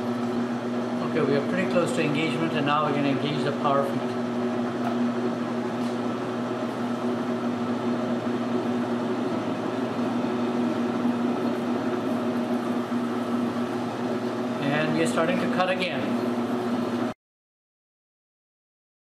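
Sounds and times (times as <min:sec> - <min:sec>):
metal lathe running: 0:00.0 - 0:17.1.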